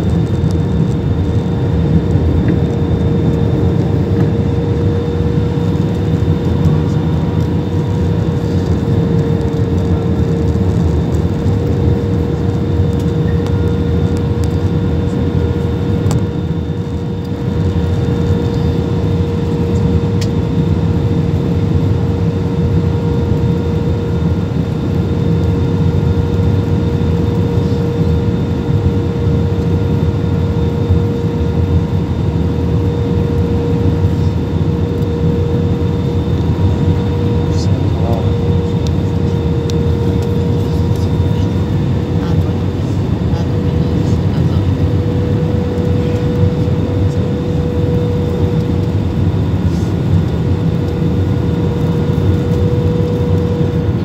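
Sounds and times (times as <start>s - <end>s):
airliner cabin engine rush: 0.0s - 54.0s.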